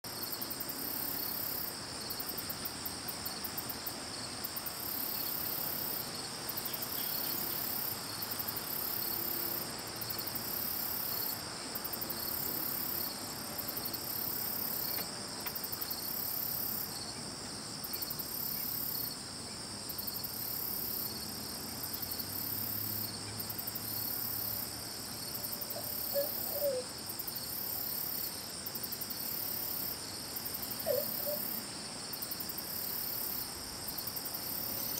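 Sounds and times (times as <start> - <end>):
shrill insect trill: 0.1 - 17.2, 19.9 - 34.9
crickets trilling: 0.1 - 34.9.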